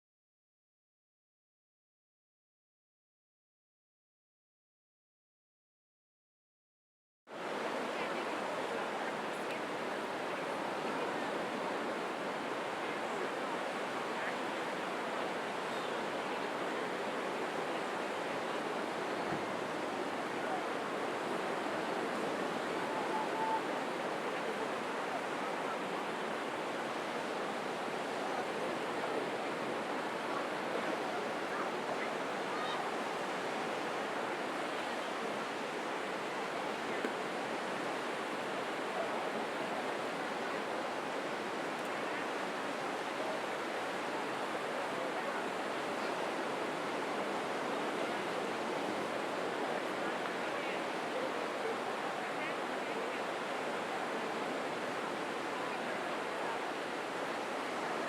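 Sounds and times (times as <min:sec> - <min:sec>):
surf: 0:07.3 - 0:58.0.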